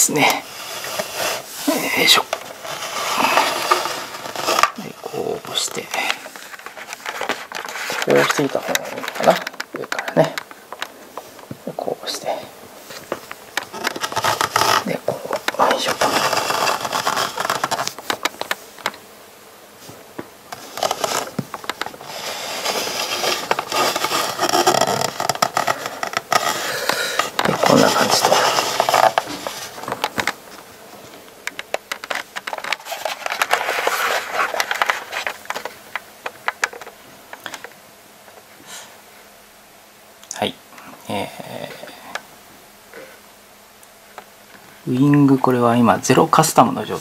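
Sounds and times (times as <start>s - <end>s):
scraping and rustling handling noise: 0.0s - 39.3s.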